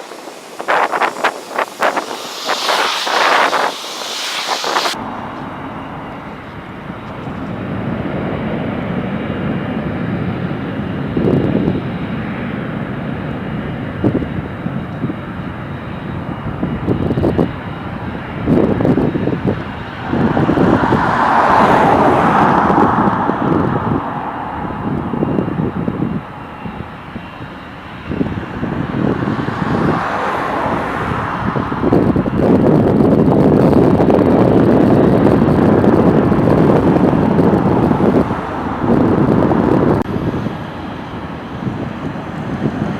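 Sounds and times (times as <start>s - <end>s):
jet engines passing: 0.0s - 42.9s
wind buffeting microphone: 0.0s - 42.9s.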